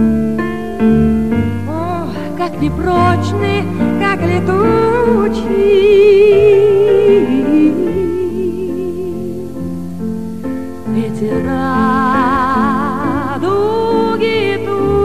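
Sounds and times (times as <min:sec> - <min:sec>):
person singing long vibrato notes: 0:01.7 - 0:09.7, 0:10.9 - 0:15.0.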